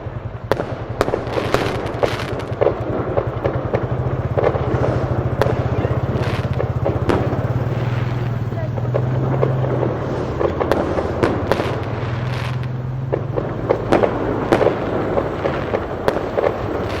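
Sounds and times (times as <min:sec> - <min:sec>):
fireworks bangs and crackles: 0:00.0 - 0:17.0
steady low hum: 0:00.0 - 0:17.0.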